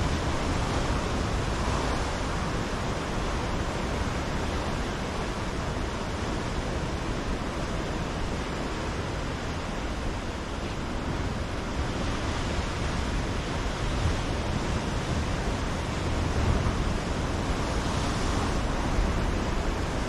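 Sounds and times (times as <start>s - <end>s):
waves breaking on rocks: 0.0s - 20.0s.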